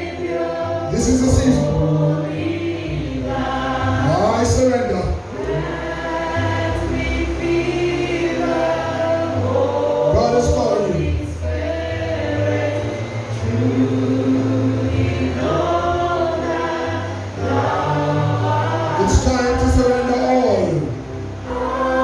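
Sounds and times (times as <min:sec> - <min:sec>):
group singing a gospel hymn: 0:00.0 - 0:22.0
low steady accompaniment: 0:00.0 - 0:22.0.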